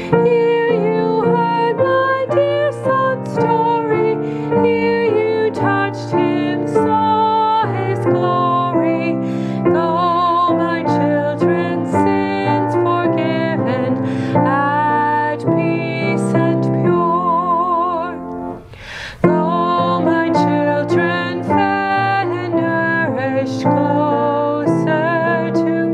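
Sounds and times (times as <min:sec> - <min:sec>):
keyboard accompaniment: 0:00.0 - 0:25.9
person singing a hymn: 0:00.0 - 0:25.9.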